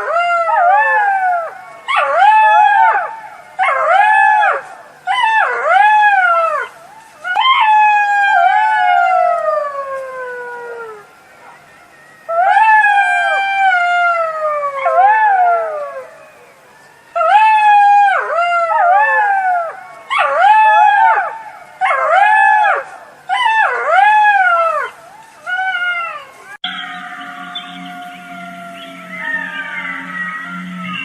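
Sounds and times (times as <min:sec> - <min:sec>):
jackal howling: 0:00.0 - 0:31.0.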